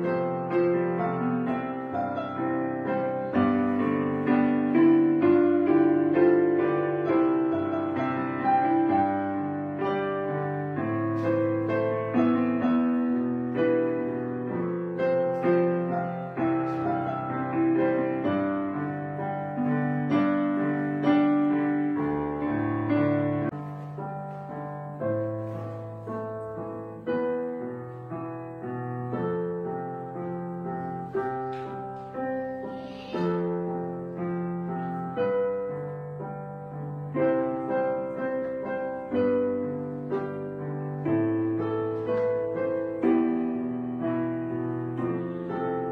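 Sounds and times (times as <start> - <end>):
gentle piano music: 0.0 - 45.9.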